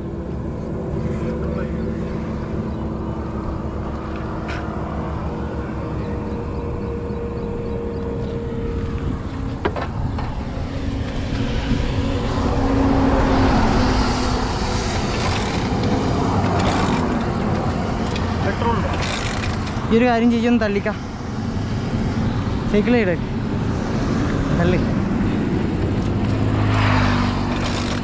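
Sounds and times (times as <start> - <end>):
vehicle engine humming: 0.0 - 28.0
vehicle passing: 0.0 - 28.0.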